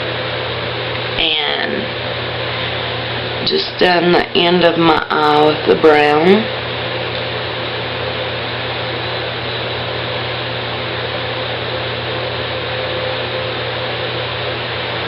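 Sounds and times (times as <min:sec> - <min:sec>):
low constant hum: 0:00.0 - 0:15.0.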